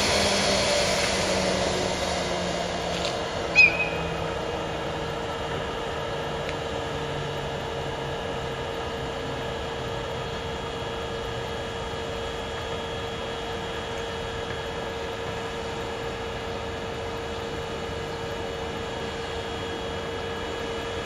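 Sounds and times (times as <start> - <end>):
electrical mechanical hum: 0.0 - 21.0.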